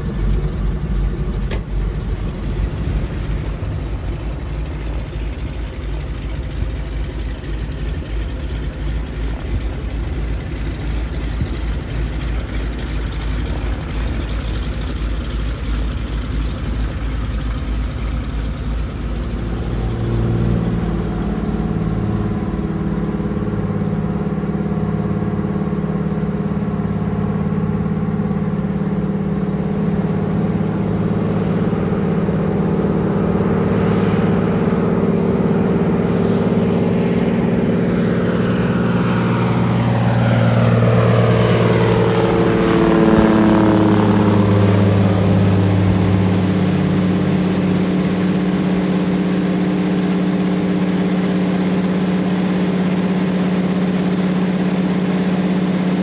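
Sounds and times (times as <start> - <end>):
propeller engine from inside cabin: 0.0 - 56.0.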